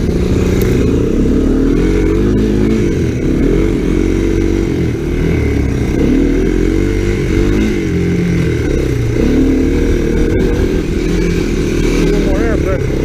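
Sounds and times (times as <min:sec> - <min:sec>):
three-wheeler engines revving: 0:00.0 - 0:13.0.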